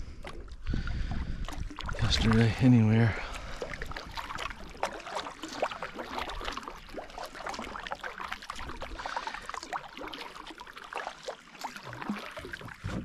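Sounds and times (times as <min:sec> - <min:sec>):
paddle splashing: 0:00.0 - 0:13.0
small waves lapping at hull: 0:00.0 - 0:13.0.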